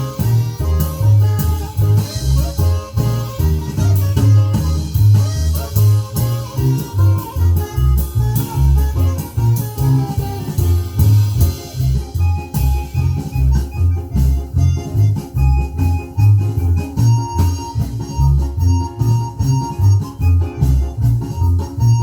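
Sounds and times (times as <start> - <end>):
band music with prominent bass: 0.0 - 22.0.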